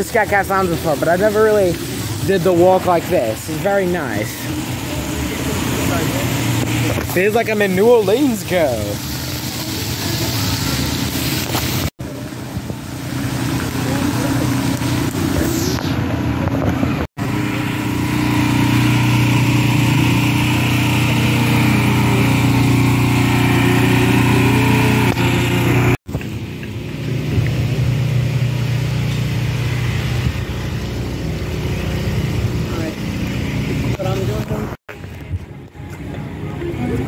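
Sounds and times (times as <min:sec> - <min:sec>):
small engine humming: 0:00.1 - 0:37.0.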